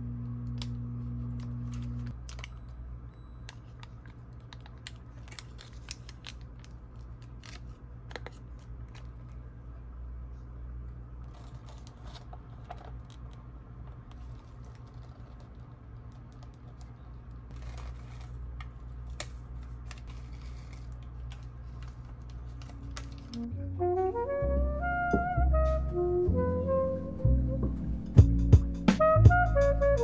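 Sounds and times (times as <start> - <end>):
steady low hum: 0.0 - 26.4.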